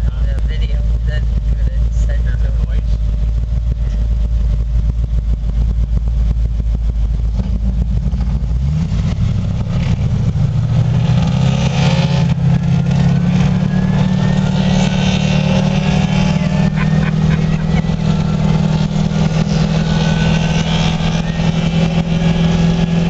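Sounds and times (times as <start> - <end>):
car engine with loud exhaust: 0.0 - 23.0.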